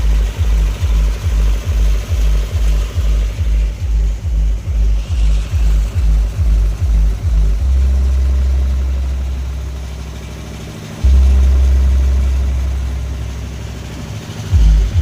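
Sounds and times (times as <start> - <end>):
deep bass notes: 0.0 - 15.0.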